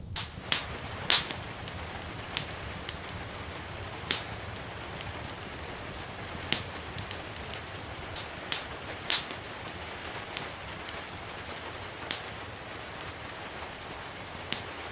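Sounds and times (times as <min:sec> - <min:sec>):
rain falling: 0:00.0 - 0:14.9
wood fire crackling and popping: 0:00.0 - 0:14.9.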